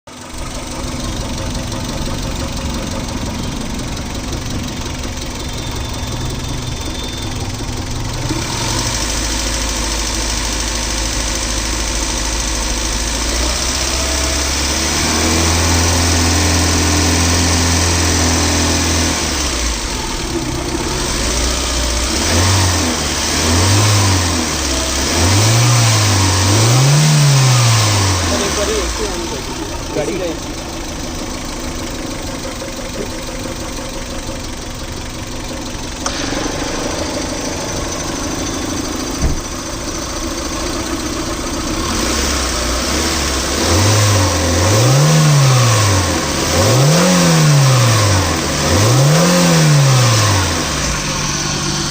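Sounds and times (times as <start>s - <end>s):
car engine idling and revving: 0.1s - 51.9s.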